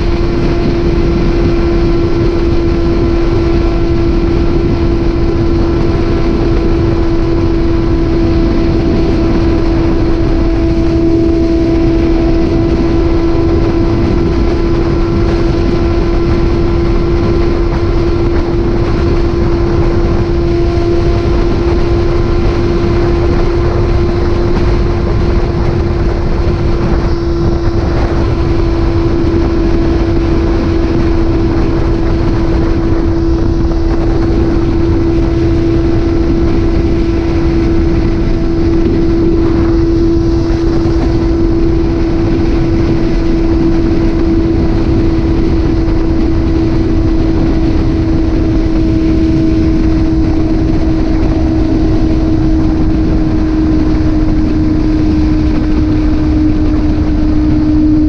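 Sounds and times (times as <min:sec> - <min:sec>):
motorcycle engine cruising: 0:00.0 - 0:58.0
wind rush on microphone: 0:00.0 - 0:58.0.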